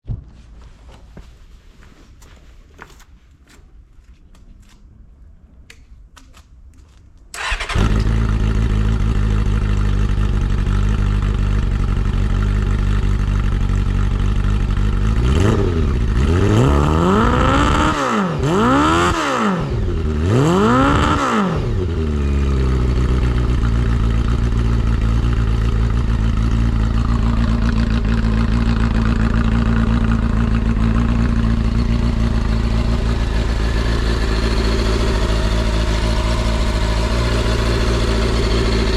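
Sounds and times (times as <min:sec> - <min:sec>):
motorcycle engine idling and revving: 0:07.4 - 0:38.9.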